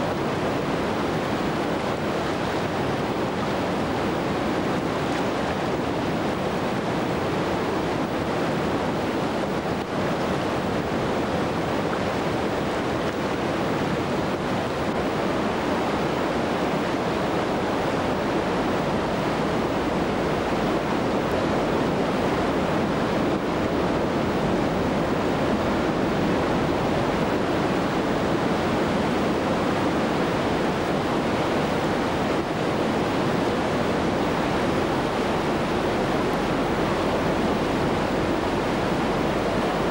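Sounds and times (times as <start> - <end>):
river rapids rushing: 0.0 - 39.9.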